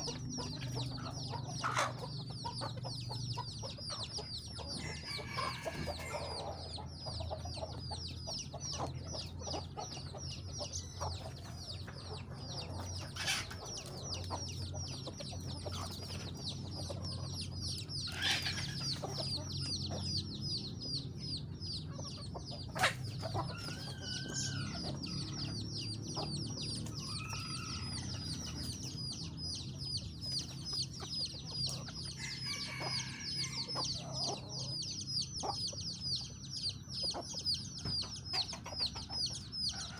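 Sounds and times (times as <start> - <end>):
chickens clucking: 0.0 - 39.9
rapid high-pitched chirping: 0.0 - 39.9.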